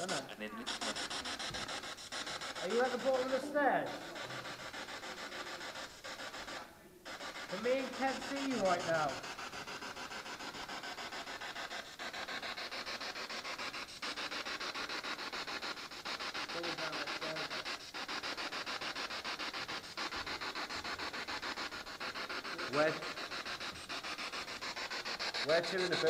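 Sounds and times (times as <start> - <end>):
pulsing static hiss: 0.0 - 26.0
voice snatch: 0.0 - 26.0.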